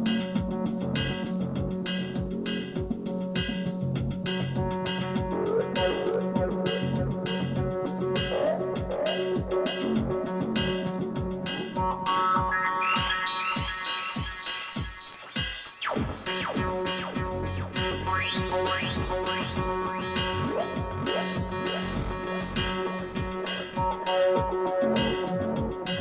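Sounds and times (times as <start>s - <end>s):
drum machine beat: 0.0s - 26.0s
synthesizer line with delay: 4.2s - 26.0s.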